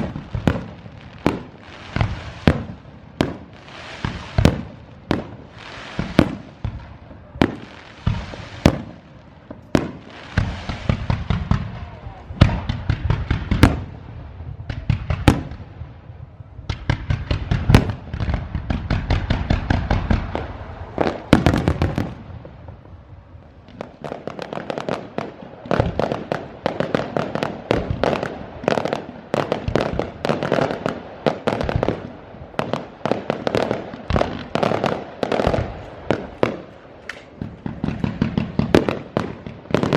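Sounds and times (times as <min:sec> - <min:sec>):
fireworks bangs: 0:00.0 - 0:39.9
fireworks crackling and popping: 0:00.0 - 0:39.9.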